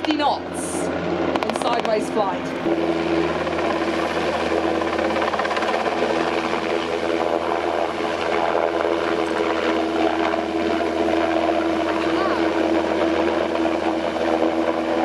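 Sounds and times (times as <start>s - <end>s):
helicopter engine whine: 0.0s - 15.0s.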